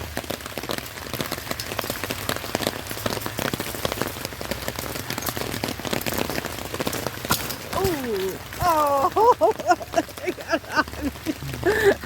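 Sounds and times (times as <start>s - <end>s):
rain drops pattering: 0.0s - 12.0s.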